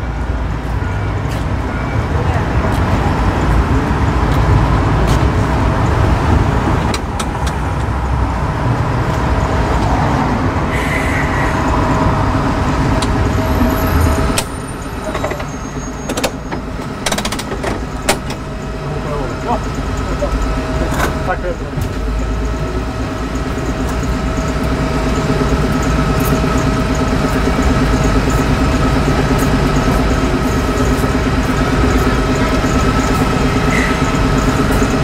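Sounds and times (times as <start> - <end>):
tram rumbling on rails: 0.0 - 35.0.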